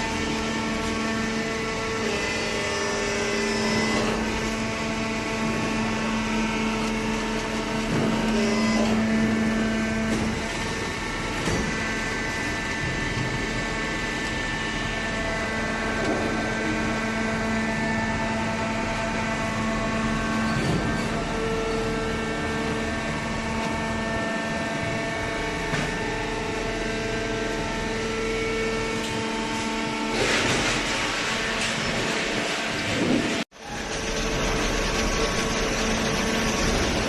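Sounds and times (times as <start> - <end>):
machine hum and whine: 0.0 - 37.0.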